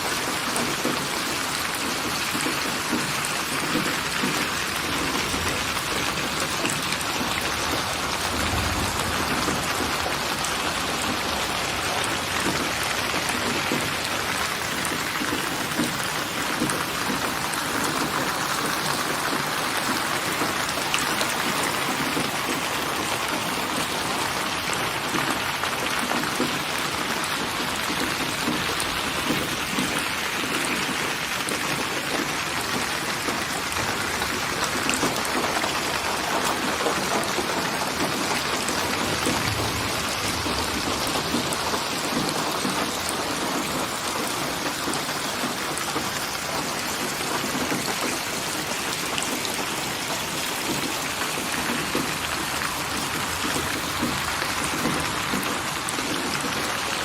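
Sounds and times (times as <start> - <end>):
heavy rainfall: 0.0 - 57.0.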